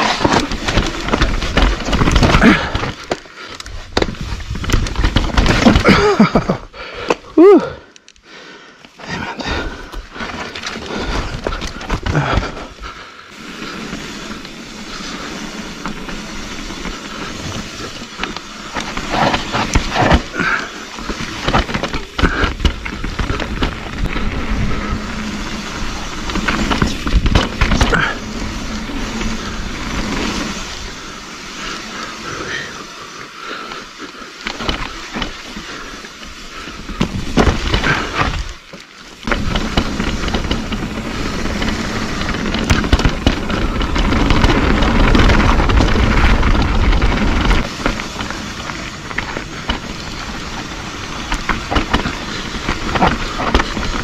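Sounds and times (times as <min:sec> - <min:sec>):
bike knocking and rattling: 0:00.0 - 0:08.2, 0:08.8 - 0:54.0
bike tyres on dirt: 0:00.0 - 0:54.0.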